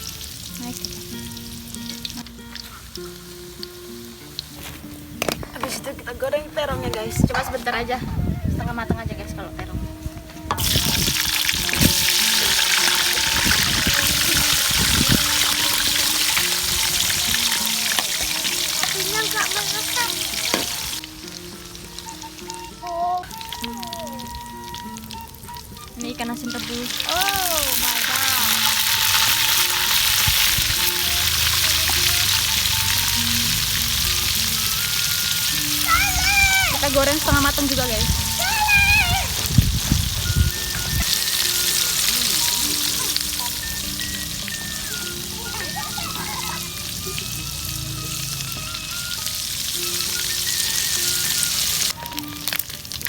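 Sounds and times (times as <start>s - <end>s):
vegetables frying in oil: 0.0s - 6.3s, 10.5s - 53.0s
background music: 0.0s - 53.0s.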